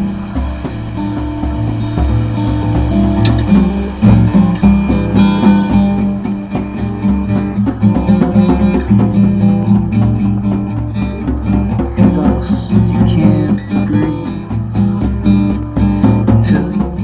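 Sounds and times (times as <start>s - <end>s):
guitar plucked and strummed: 0.0s - 17.0s
steady low notes: 0.0s - 17.0s.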